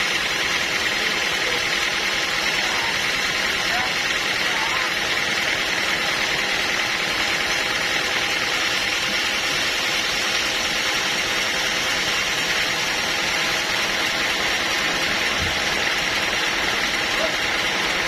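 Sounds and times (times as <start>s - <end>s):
band sawmill machinery running: 0.0s - 18.0s.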